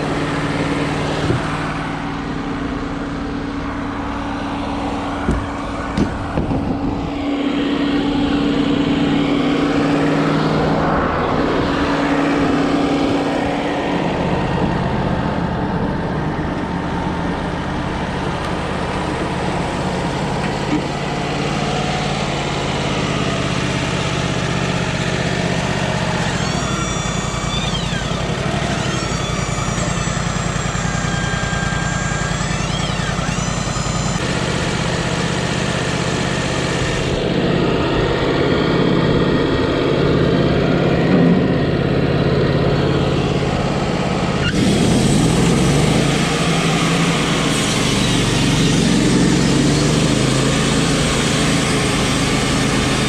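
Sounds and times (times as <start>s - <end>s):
sawmill engine droning: 0.0s - 53.0s.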